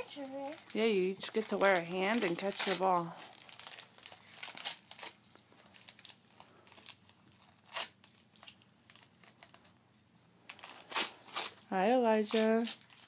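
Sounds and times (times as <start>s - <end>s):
wrapping paper rustling and tearing: 0.0s - 9.8s, 10.5s - 13.0s.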